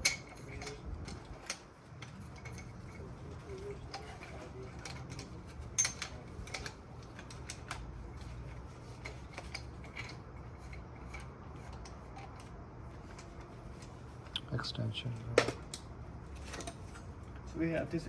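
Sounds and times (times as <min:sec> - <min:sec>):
metal parts clicking and tapping: 0:00.0 - 0:14.4, 0:15.4 - 0:17.5.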